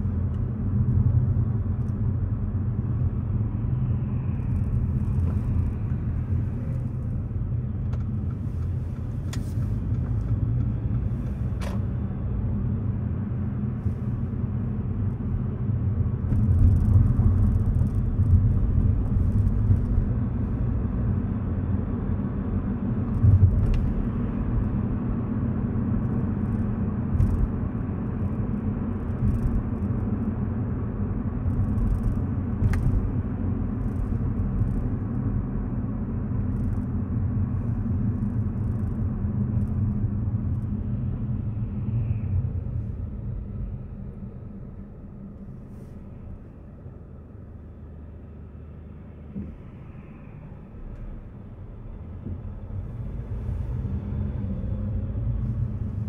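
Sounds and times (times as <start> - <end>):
tyres and engine rumble: 0.0 - 56.0.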